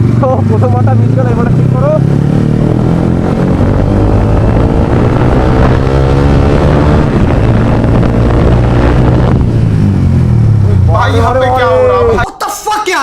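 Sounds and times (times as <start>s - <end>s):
motorcycle engine revving: 0.0s - 12.2s
low exhaust rumble: 0.0s - 12.3s.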